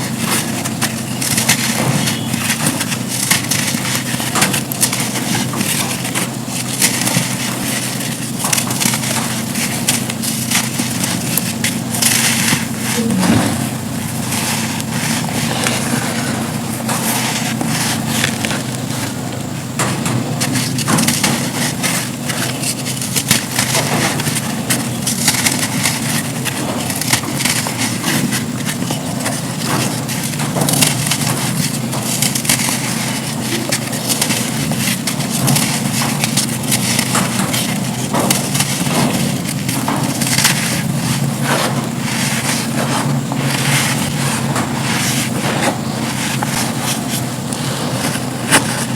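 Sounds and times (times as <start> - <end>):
sand slabs crunching: 0.0 - 48.9.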